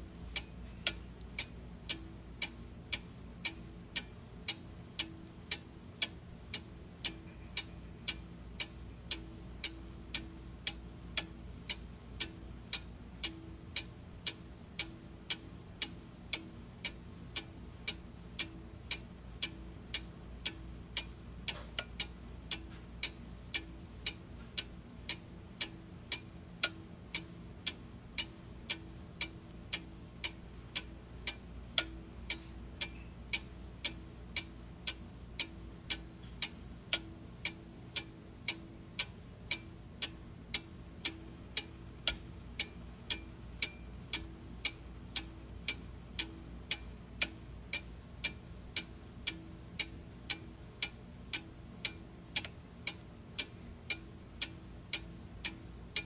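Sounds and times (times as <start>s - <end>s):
faint low hum: 0.0s - 56.0s
mechanical ticking: 0.0s - 56.0s.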